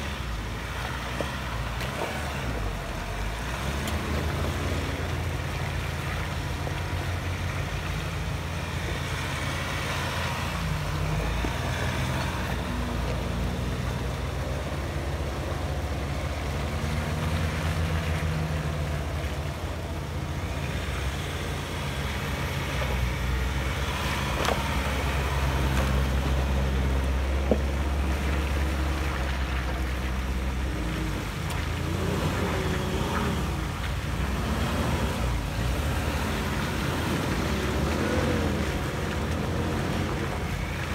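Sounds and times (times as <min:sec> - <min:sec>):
engine revving: 0:00.0 - 0:40.9
truck engines at low revs: 0:00.0 - 0:40.9.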